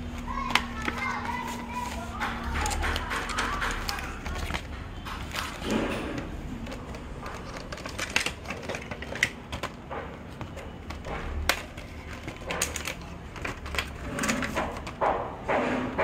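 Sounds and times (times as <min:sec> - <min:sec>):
paper sheet rustling: 0:00.0 - 0:15.0
plastic packaging crinkling: 0:00.0 - 0:15.1.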